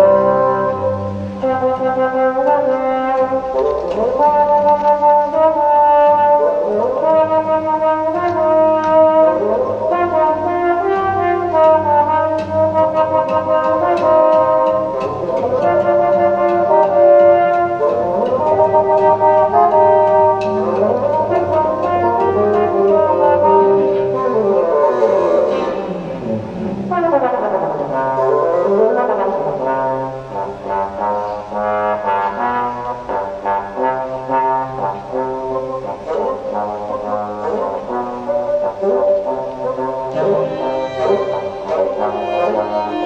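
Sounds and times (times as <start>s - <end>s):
chamber ensemble music: 0.0s - 43.0s
trombone melody with slides: 0.0s - 43.0s.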